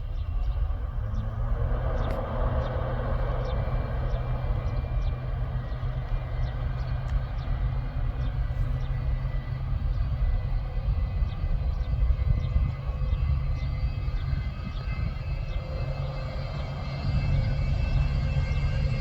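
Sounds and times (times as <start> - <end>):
aircraft engines rumbling: 0.0 - 19.0.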